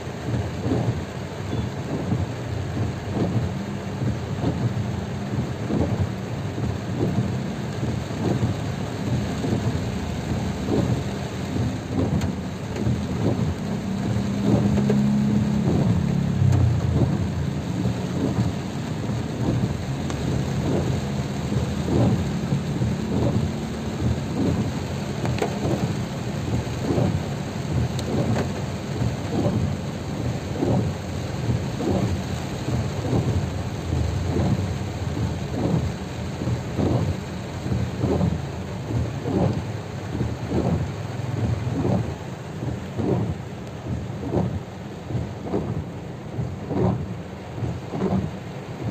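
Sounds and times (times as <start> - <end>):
heavy rain on car roof: 0.0 - 48.9.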